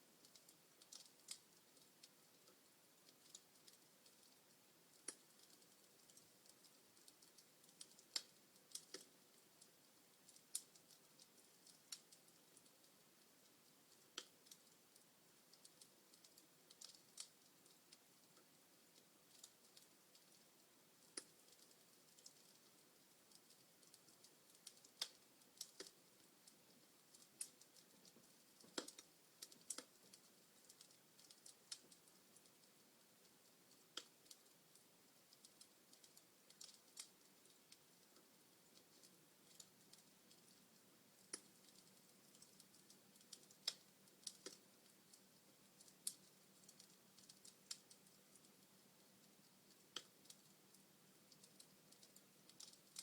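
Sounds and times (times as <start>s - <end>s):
faint hiss: 0.0s - 53.0s
wood fire crackling and popping: 0.0s - 53.0s.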